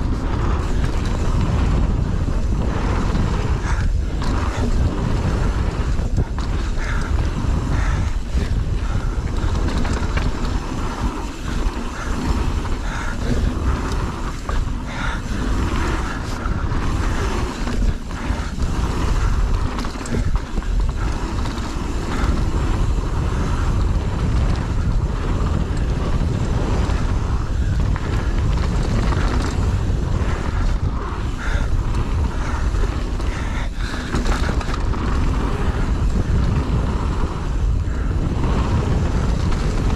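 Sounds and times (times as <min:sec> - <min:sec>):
bike rattling and knocking: 0:00.0 - 0:39.9
wind roaring on microphone: 0:00.0 - 0:39.9.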